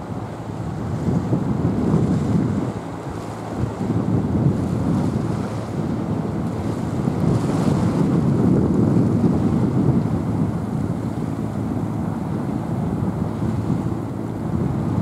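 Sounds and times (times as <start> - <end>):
sea noise: 0.0 - 15.0
wind rumbling on microphone: 0.0 - 15.0.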